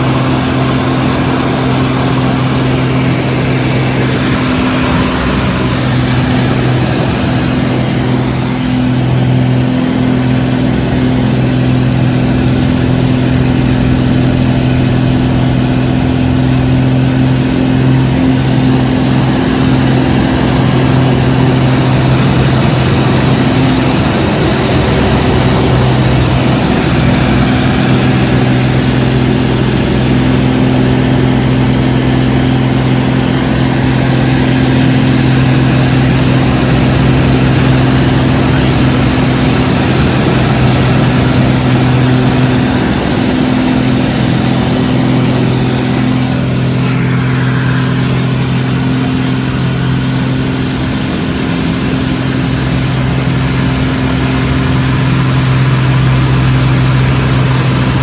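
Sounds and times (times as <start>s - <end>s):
wind rush: 0.0s - 51.9s
propeller engine drone: 0.0s - 58.0s.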